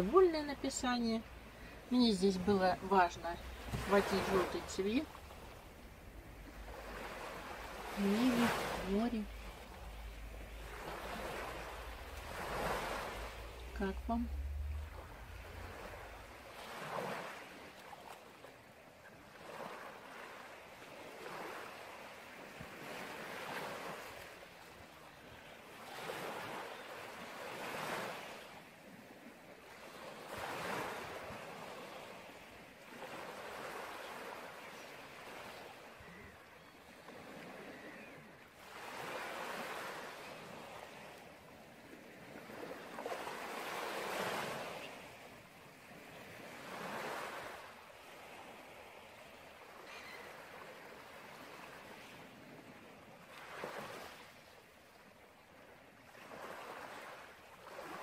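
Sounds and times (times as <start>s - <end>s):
sea waves washing in: 0.0s - 54.9s, 56.1s - 58.0s.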